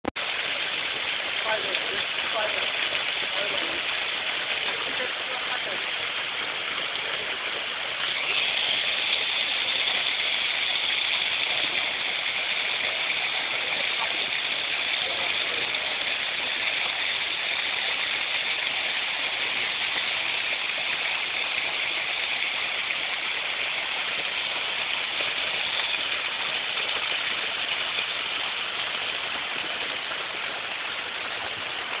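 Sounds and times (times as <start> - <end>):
water pouring down rock face: 0.1 - 32.0.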